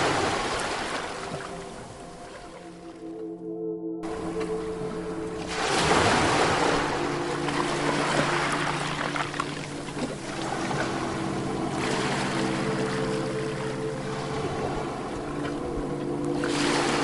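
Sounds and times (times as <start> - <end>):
ocean waves breaking: 0.0 - 3.2, 4.0 - 17.0
soft music drone: 0.0 - 17.0.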